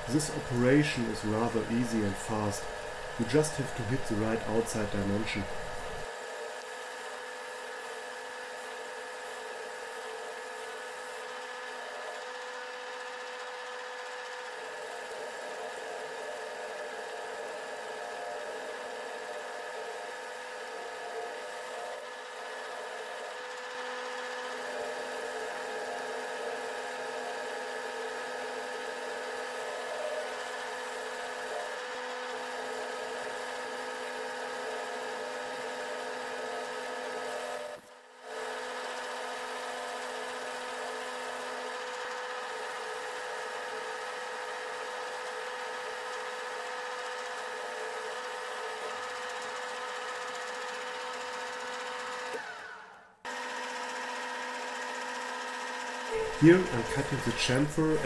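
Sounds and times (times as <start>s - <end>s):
metal lathe motor whine: 0.0s - 58.0s.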